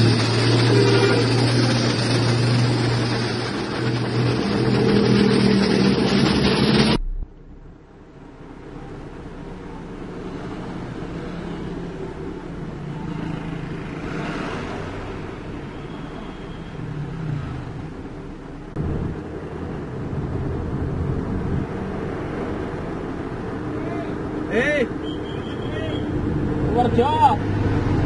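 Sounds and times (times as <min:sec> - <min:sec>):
road noise inside vehicle: 0:00.0 - 0:28.0
vehicle engine hum: 0:00.0 - 0:28.0.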